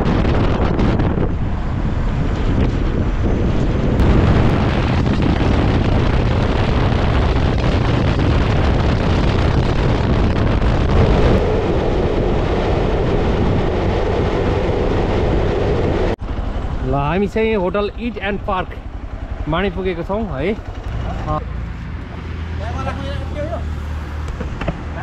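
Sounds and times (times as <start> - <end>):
motorcycle engine and road noise: 0.0 - 25.0
wind buffeting microphone: 0.0 - 25.0.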